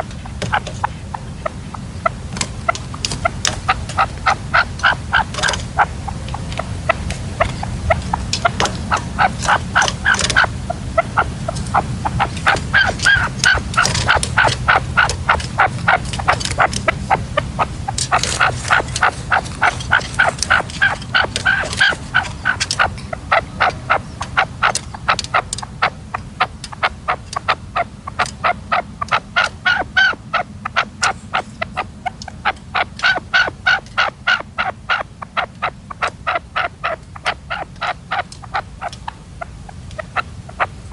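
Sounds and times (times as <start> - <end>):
partridges calling: 0.0 - 40.9.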